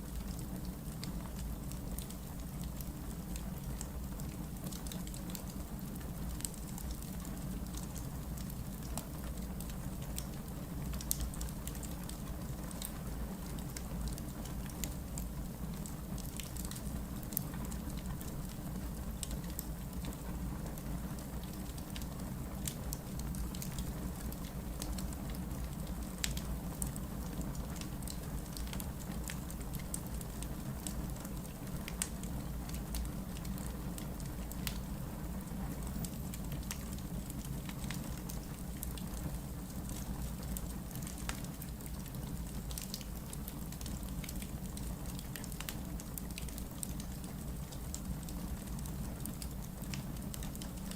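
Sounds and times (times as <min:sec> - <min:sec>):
fire crackles and pops: 0:00.0 - 0:50.9
low rumble of flame: 0:00.0 - 0:50.9.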